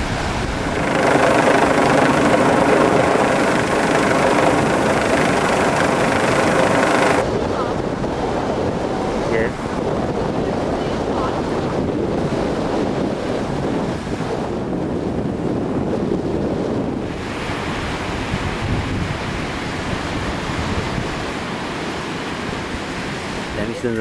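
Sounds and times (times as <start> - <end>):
choppy sea waves: 0.0 - 24.0
wind buffeting microphone: 0.0 - 24.0.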